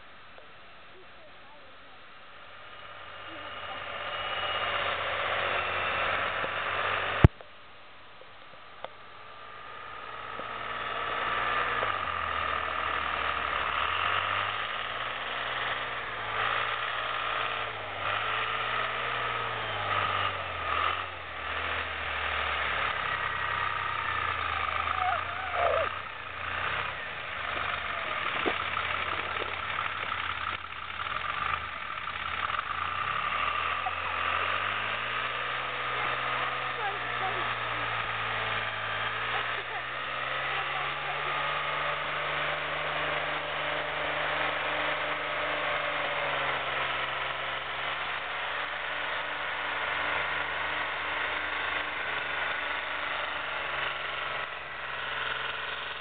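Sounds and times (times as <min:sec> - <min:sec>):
snow vehicle engine revving: 0:00.0 - 0:07.4, 0:08.2 - 0:56.0.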